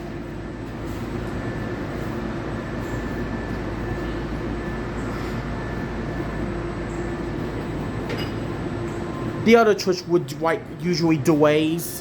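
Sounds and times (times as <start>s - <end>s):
constant mechanical hum: 0.0s - 12.0s.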